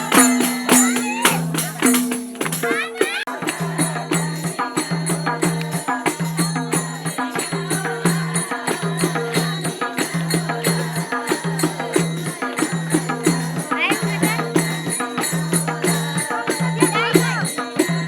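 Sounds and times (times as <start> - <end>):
music with percussion and bass: 0.0 - 18.0.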